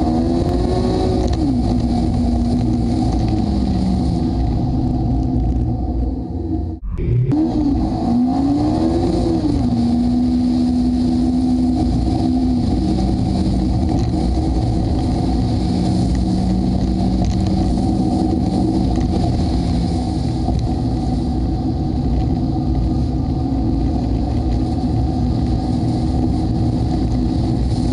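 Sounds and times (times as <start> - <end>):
car engine driving: 0.0 - 27.9
wind rumble on microphone: 0.0 - 27.9.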